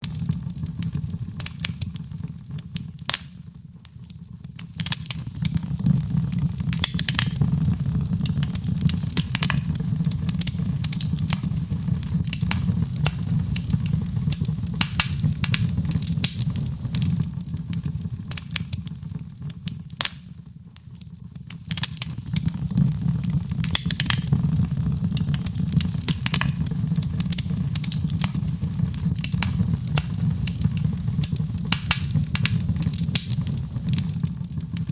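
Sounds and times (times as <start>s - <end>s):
fire pops and snaps: 0.0s - 34.9s
low rumble of flames: 0.0s - 34.9s
wood fire crackling: 0.0s - 34.9s.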